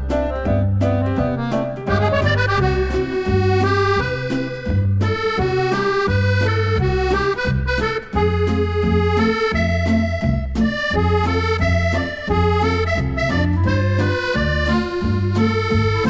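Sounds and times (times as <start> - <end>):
steady bass: 0.0 - 16.0
upbeat accordion tune: 0.0 - 16.0.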